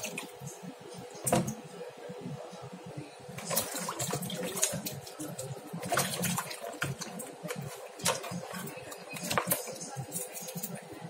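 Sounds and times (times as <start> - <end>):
water sloshing in a basin: 0.0 - 1.7, 3.2 - 11.0.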